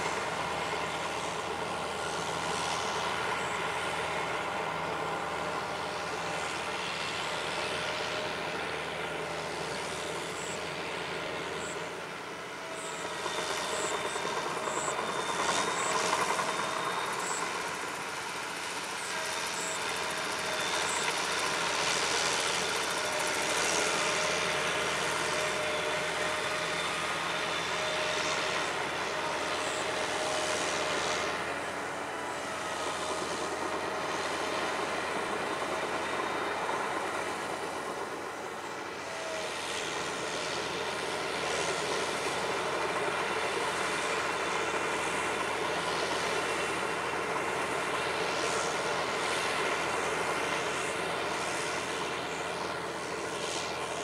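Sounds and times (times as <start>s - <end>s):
crawler tractor engine running: 0.0s - 54.0s.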